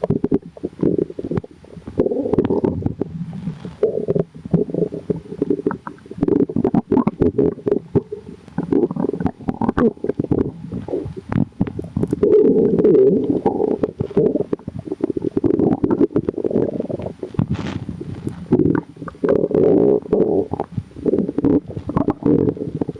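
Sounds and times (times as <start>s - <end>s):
stomach growling and gurgling: 0.0s - 22.9s.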